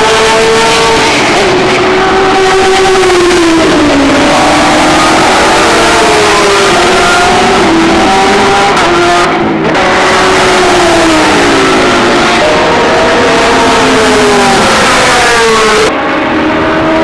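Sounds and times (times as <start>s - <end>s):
race car engines at full speed: 0.0s - 17.0s.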